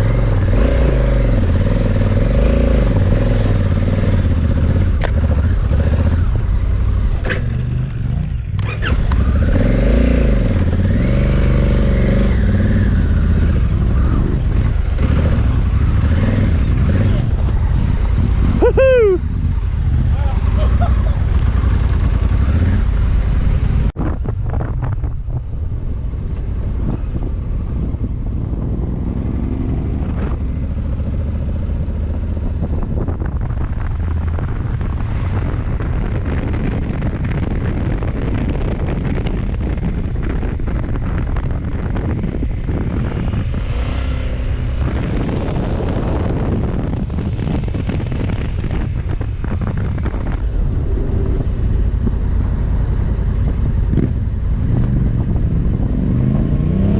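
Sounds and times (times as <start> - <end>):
motorcycle engine revving: 0.0 - 56.9
wind noise on microphone: 0.0 - 56.9.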